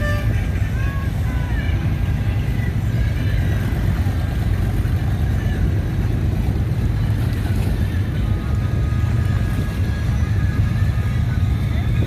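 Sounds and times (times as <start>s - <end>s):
motorboat engines rumbling: 0.0s - 12.0s
wind buffeting microphone: 0.0s - 12.0s.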